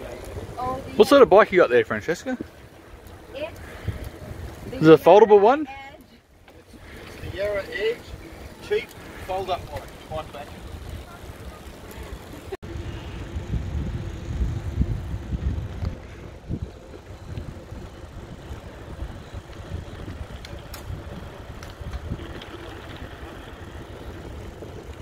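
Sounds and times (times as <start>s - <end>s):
wind buffeting microphone: 0.0s - 5.5s, 6.6s - 25.0s
bicycle tyre rumble: 0.0s - 25.0s.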